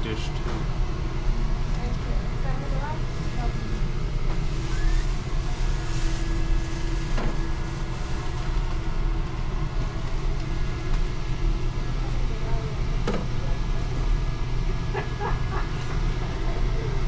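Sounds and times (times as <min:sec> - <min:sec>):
indoor machinery rumble and hum: 0:00.0 - 0:17.0.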